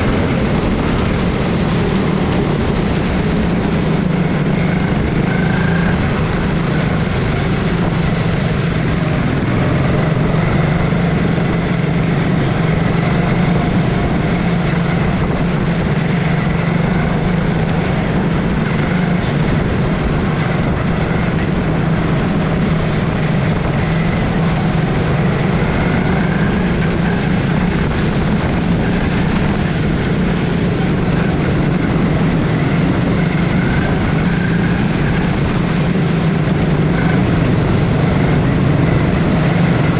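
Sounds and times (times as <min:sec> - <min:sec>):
small racing engines droning: 0:00.0 - 0:39.9.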